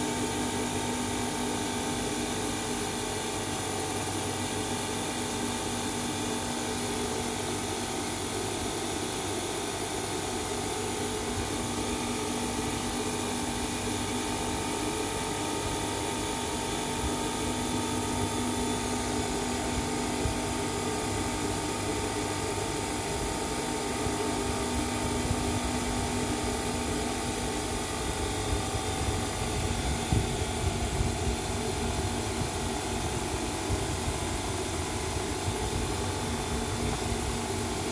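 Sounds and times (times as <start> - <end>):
disc sander whirring: 0.0 - 37.9.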